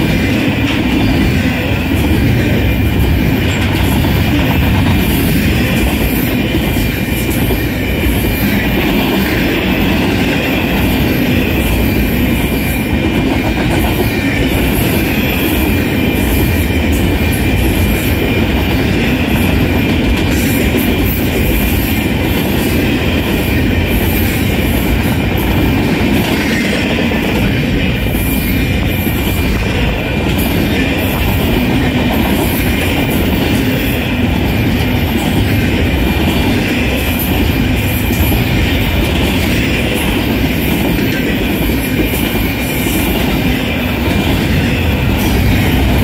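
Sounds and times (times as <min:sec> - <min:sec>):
freight train rumbling and clattering: 0:00.0 - 0:46.0.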